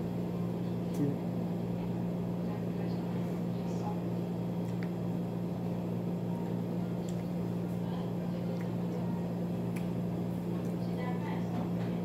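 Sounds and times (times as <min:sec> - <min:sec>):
appliance electrical hum: 0:00.0 - 0:12.0.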